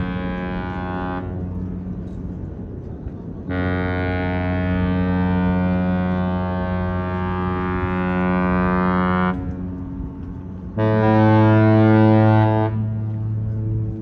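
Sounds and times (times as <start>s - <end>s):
ship horn blasts: 0.0s - 14.0s.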